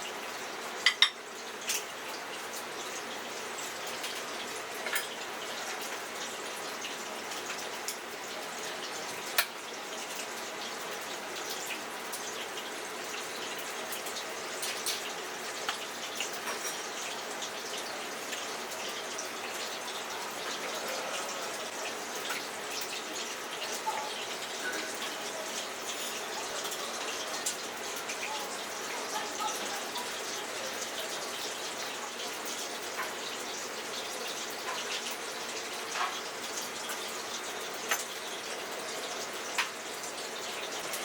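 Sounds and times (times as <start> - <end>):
running tap water: 0.0 - 41.0.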